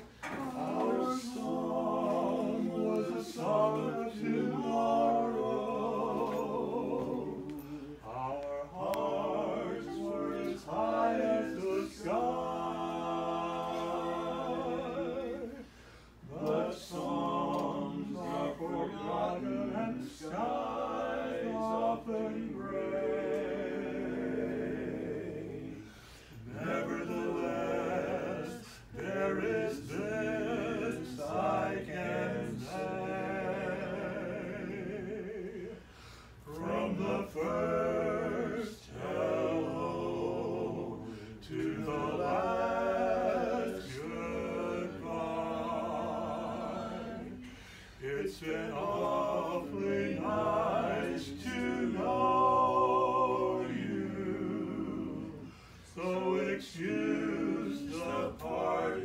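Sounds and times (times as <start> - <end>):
male quartet singing a cappella: 0.0 - 59.0.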